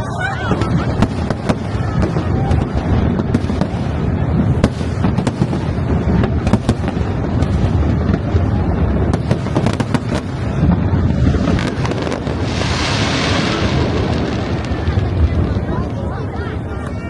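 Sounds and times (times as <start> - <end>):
fireworks bangs and crackles: 0.0 - 17.0
low continuous rumble: 0.0 - 17.0.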